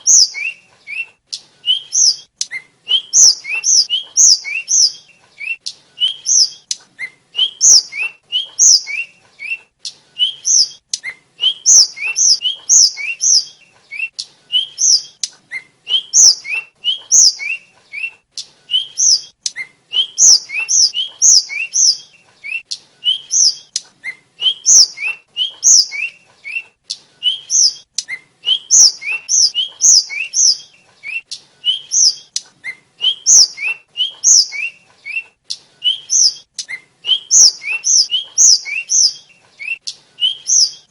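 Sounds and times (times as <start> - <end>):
flycatcher whistled song: 0.0 - 40.9.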